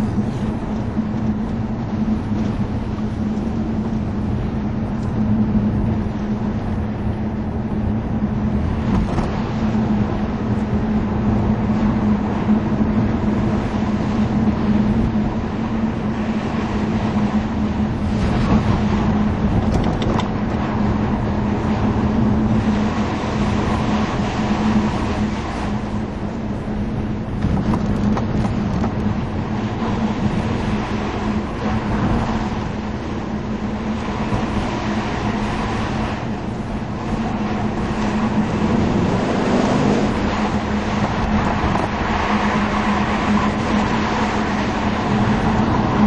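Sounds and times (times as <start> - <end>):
car engine droning in cabin: 0.0 - 46.0
tyre and road noise: 0.0 - 46.0.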